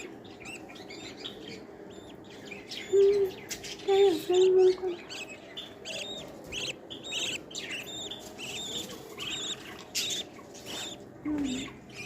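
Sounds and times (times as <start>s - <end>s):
young birds chirping: 0.0s - 12.0s.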